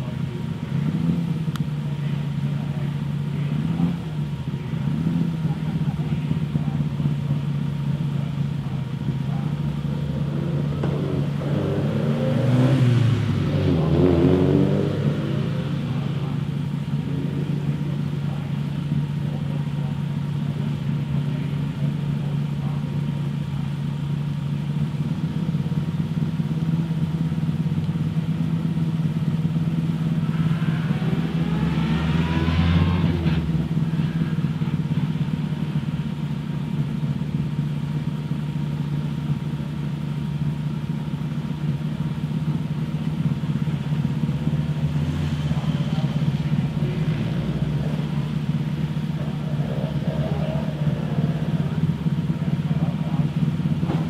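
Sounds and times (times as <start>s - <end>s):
rally car engine idling and revving: 0.0s - 54.0s.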